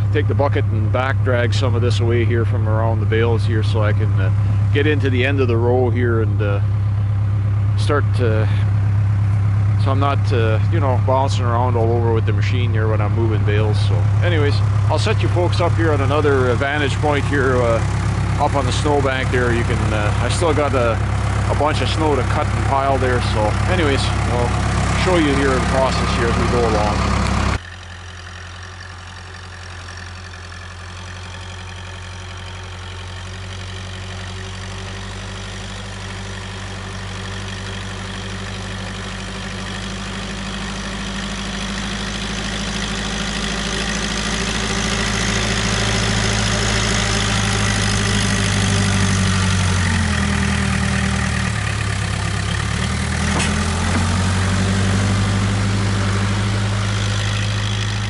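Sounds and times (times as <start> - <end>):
backhoe engine running: 0.0 - 58.0.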